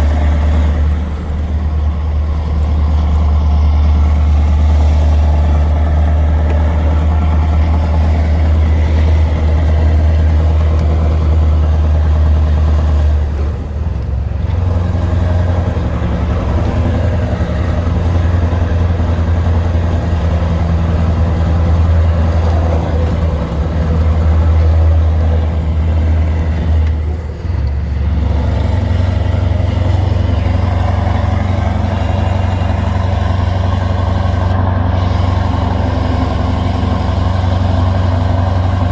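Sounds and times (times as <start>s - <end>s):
truck engine pulling under load: 0.0s - 38.9s.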